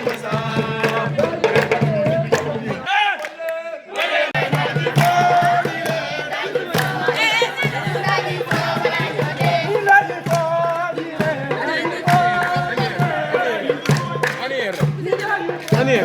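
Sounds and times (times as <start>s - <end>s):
sharp irregular beats: 0.0s - 2.9s, 4.0s - 16.0s
group singing and chanting: 0.0s - 16.0s.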